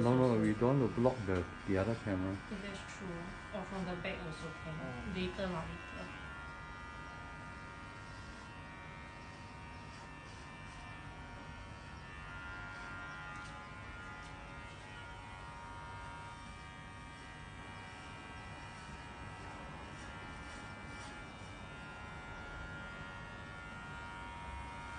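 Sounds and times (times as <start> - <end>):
electric hair clippers buzzing: 0.0 - 24.9.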